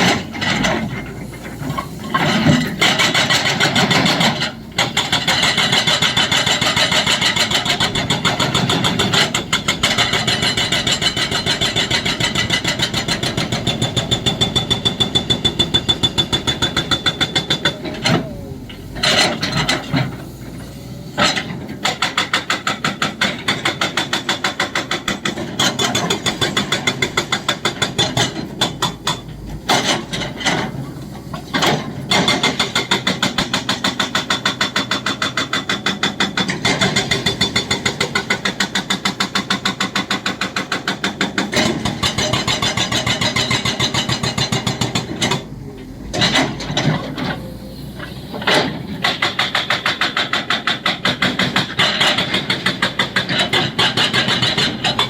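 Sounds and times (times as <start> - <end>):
hydraulic breaker hammering: 0.0 - 47.4, 48.3 - 55.0
excavator engine running: 0.0 - 55.0.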